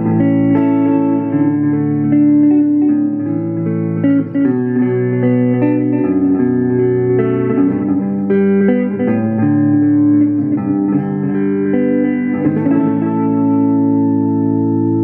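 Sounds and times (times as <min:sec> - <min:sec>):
clean electric guitar: 0:00.0 - 0:15.0.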